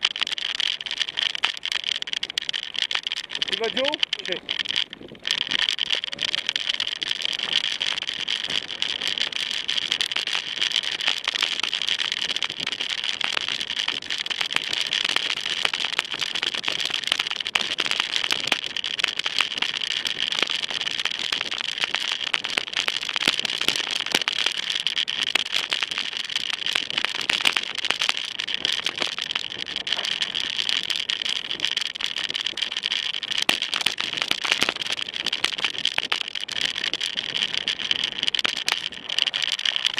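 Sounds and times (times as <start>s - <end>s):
bike rattling over gravel: 0.0s - 39.9s.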